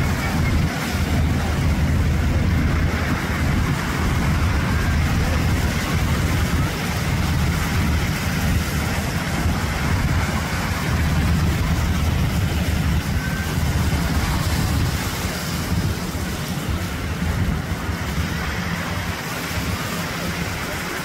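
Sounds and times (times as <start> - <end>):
beach surf washing: 0.0 - 21.0
low engine rumble: 0.0 - 21.0.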